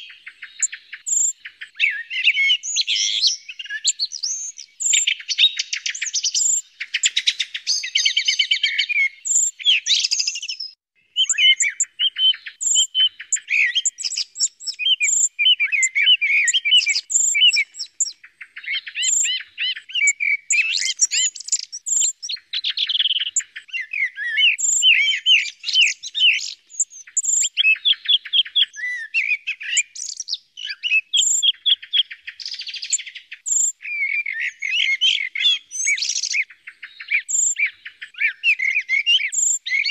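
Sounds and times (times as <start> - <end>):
recorded birdsong chirps and trills: 0.0 - 39.9.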